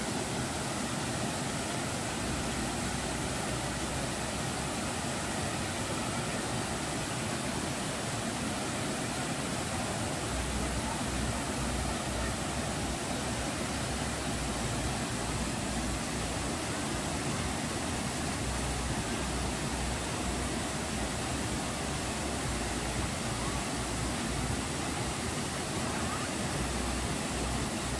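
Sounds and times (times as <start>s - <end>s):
waterfall onto rocks: 0.0s - 27.9s.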